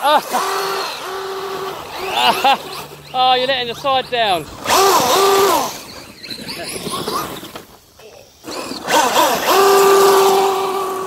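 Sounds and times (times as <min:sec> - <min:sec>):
electric rc car motors whining: 0:00.0 - 0:11.0.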